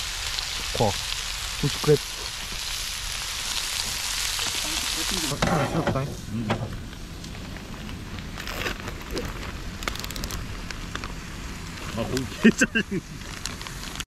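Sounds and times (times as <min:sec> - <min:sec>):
fat crackling: 0:00.0 - 0:14.0
pork sizzling in pan: 0:00.0 - 0:14.0.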